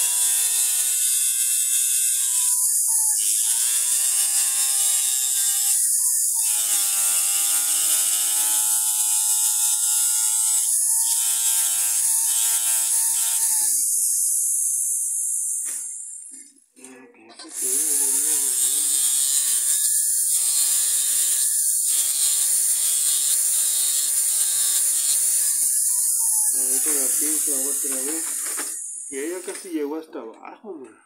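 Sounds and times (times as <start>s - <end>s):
rotary tool grinding metal: 0.0s - 16.5s, 17.4s - 29.8s.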